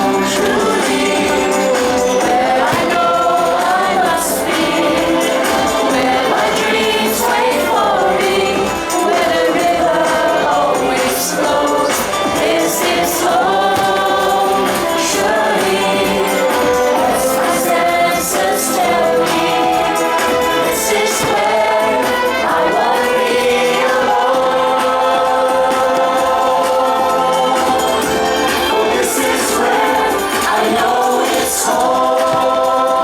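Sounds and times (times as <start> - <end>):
choir singing with music: 0.0 - 33.0.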